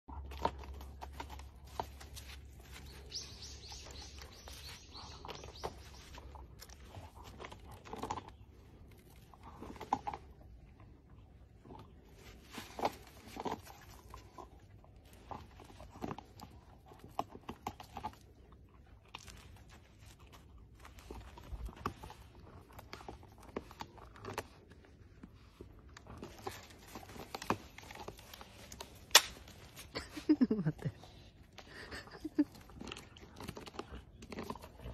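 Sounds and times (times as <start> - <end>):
dogs gnawing on wooden stick: 0.1 - 30.4, 31.0 - 34.9.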